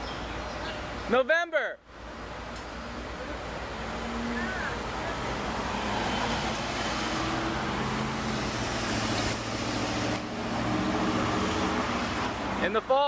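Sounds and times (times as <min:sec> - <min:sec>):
road noise hiss: 0:00.0 - 0:13.0.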